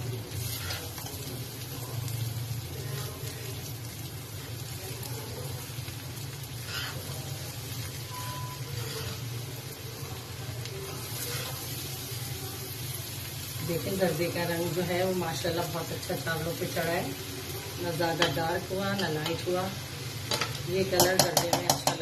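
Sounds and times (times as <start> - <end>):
rice sizzling and bubbling: 0.0 - 22.0.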